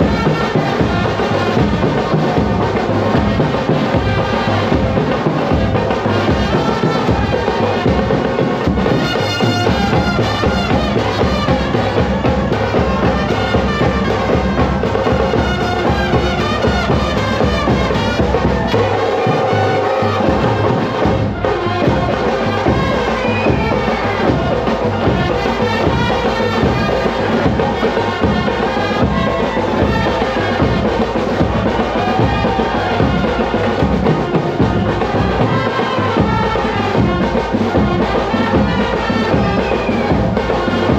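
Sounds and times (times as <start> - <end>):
brass band playing festive tune: 0.0 - 40.9
large drums beating: 0.0 - 40.9.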